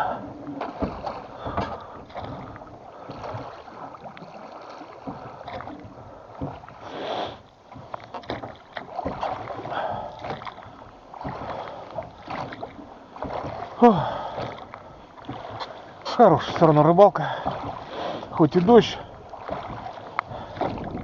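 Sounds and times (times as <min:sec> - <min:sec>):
oars knocking in oarlocks: 0:00.0 - 0:21.0
oars splashing in water: 0:00.0 - 0:21.0.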